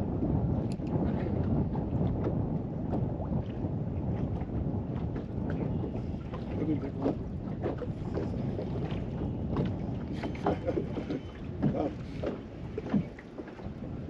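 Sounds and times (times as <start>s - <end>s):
water slapping boat hull: 0.0s - 14.0s
wind on microphone: 0.0s - 14.0s.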